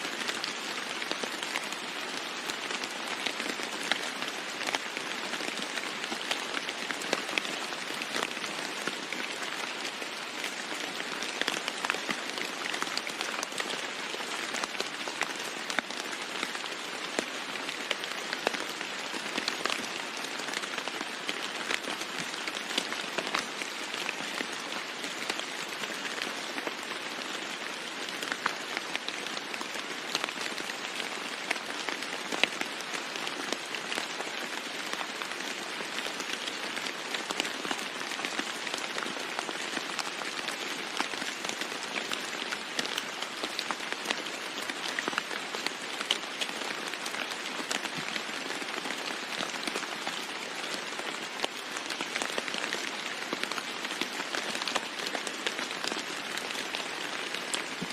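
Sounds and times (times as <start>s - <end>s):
rain on a roof: 0.0s - 57.9s.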